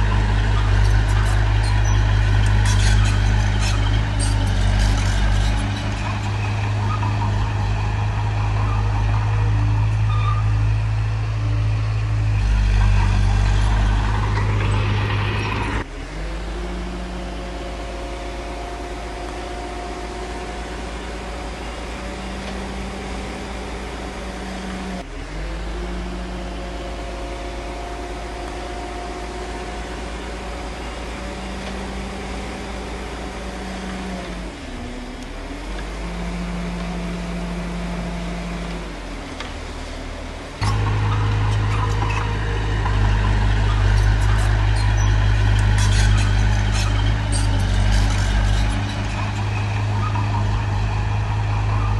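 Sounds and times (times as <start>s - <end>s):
diesel machinery engine running: 0.0s - 51.9s.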